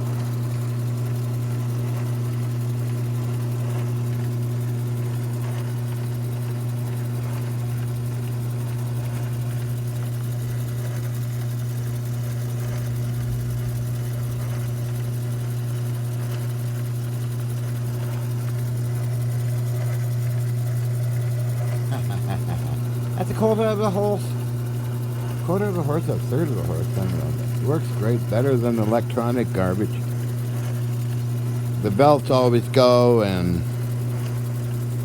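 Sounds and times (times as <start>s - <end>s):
lathe motor humming: 0.0s - 35.0s.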